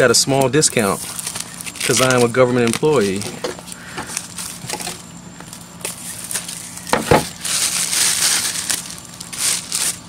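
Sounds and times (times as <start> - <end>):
plastic shrink-wrap crinkling: 0.3 - 10.0.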